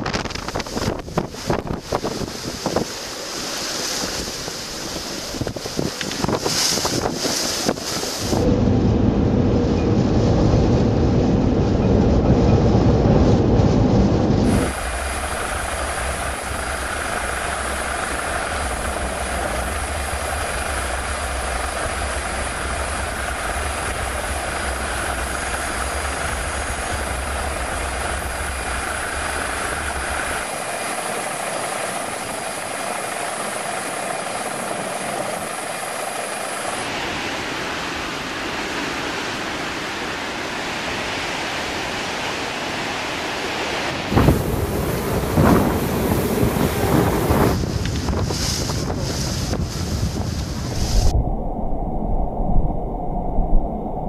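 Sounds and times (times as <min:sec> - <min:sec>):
wind on microphone: 0:00.0 - 0:39.6, 0:43.6 - 0:54.0
helicopter rotor drone: 0:00.0 - 0:41.0, 0:41.6 - 0:51.1
heavy surf: 0:00.0 - 0:54.0.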